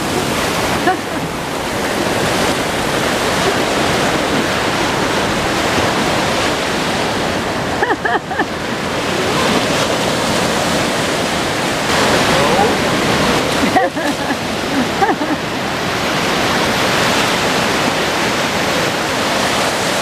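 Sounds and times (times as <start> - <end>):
ocean surf washing: 0.0 - 20.0
wind on microphone: 0.0 - 20.0.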